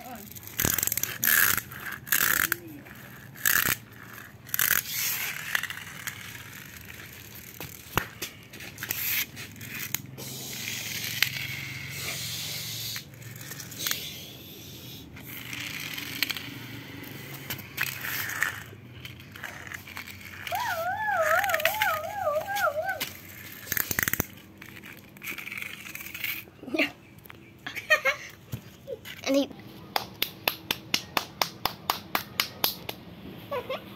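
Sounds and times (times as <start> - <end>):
toy trucks scraping on concrete: 0.0 - 29.5.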